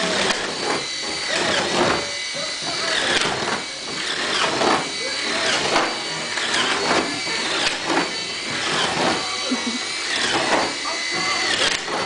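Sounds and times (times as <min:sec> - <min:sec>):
cordless drill boring into wood: 0:00.0 - 0:12.0.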